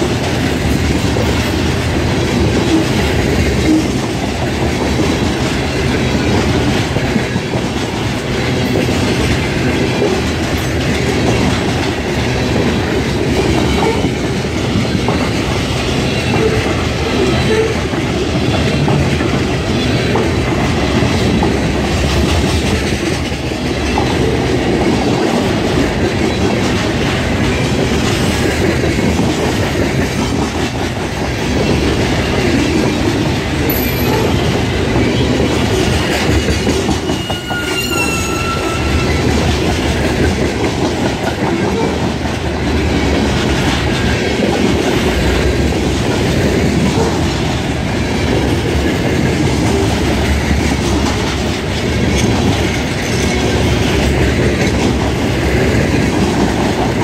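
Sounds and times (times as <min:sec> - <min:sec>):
steel wheels rumbling on rail: 0:00.0 - 0:57.0.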